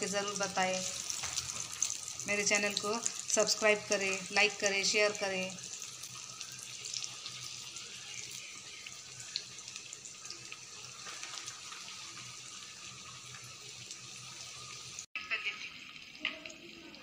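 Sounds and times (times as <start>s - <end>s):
oil crackling: 0.0s - 15.1s
chicken sizzling in oil: 0.0s - 17.0s.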